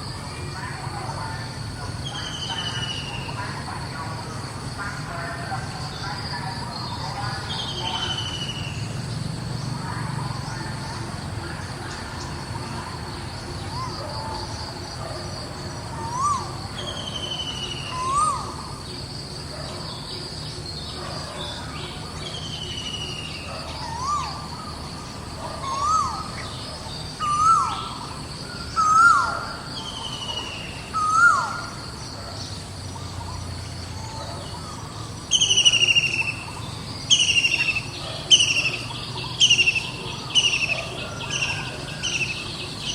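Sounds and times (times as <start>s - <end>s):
high insect drone: 0.0s - 42.9s.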